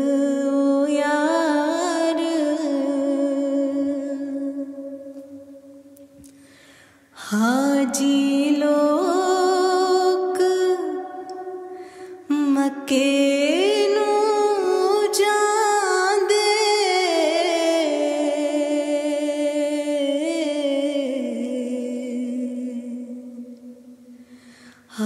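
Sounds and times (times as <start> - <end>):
person singing wordless melody: 0.0 - 6.2, 7.2 - 25.0.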